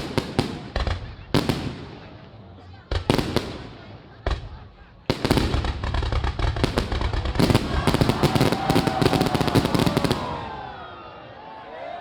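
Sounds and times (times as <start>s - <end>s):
fireworks bangs and crackles: 0.0s - 10.8s.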